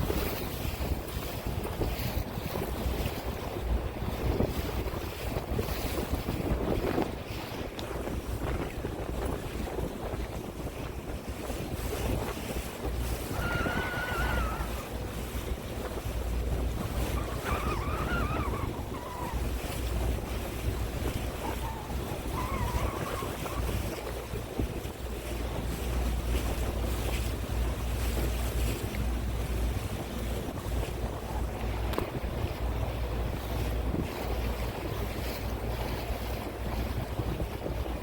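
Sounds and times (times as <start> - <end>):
water washing around boat: 0.0 - 38.0
wind buffeting microphone: 0.0 - 38.0.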